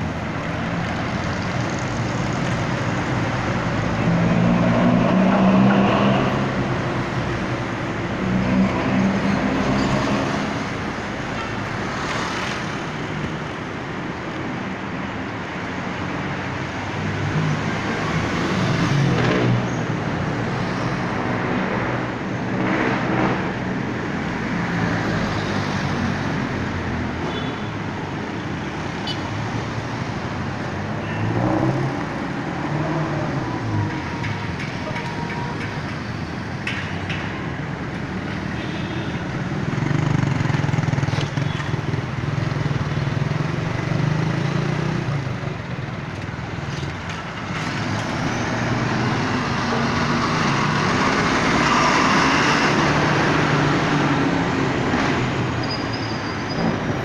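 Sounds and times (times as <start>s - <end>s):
vehicle engines passing: 0.0s - 57.0s.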